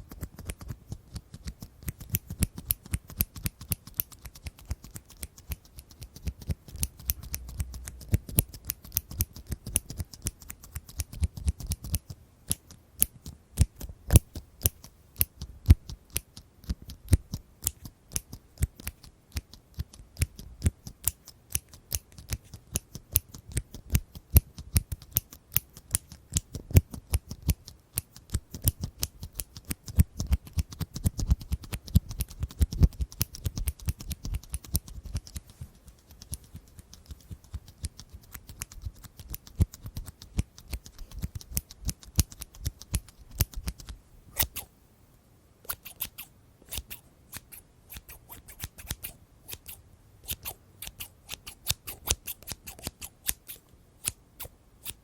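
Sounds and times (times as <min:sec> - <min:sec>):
scissors snipping: 0:00.1 - 0:44.7, 0:45.6 - 0:55.0.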